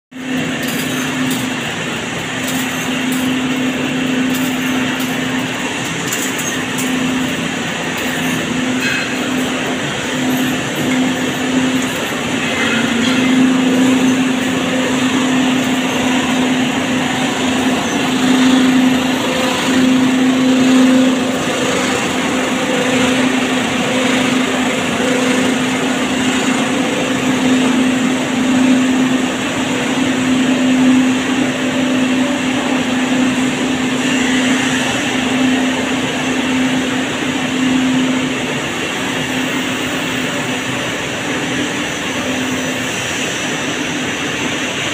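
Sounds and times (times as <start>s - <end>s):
machine humming and droning: 0.1s - 44.9s.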